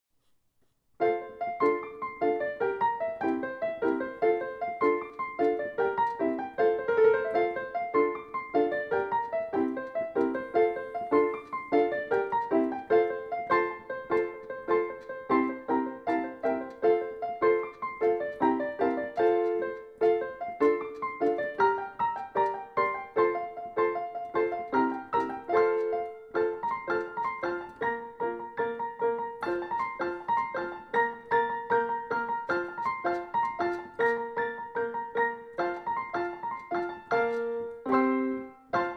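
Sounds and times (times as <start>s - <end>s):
piano melody: 1.0s - 38.9s.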